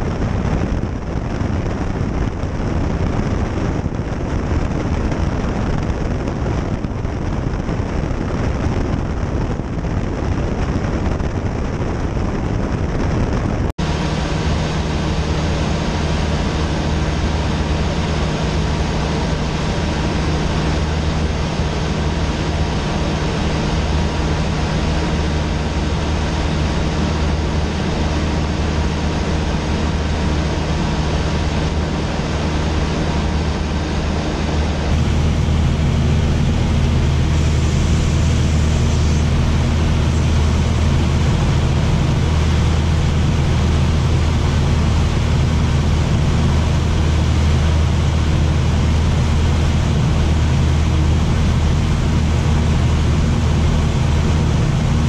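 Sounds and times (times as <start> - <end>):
airplane engine droning: 0.0 - 55.0
rushing air noise: 0.0 - 55.0.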